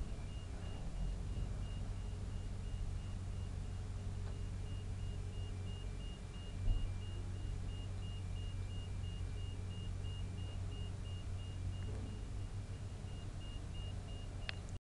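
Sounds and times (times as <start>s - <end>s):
diesel engine running: 0.0s - 14.6s
faint high electronic beeps: 0.0s - 14.6s.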